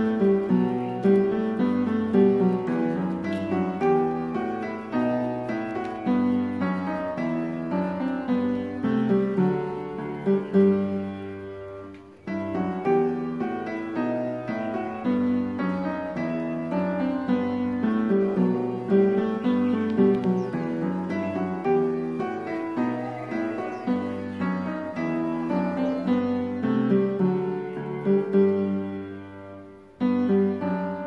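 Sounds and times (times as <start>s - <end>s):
instrumental music with clear melody: 0.0s - 31.0s.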